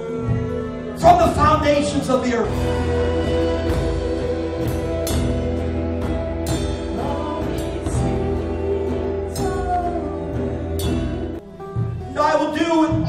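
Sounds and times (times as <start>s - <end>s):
sustained chords: 0.0s - 11.6s
person singing: 0.0s - 13.0s.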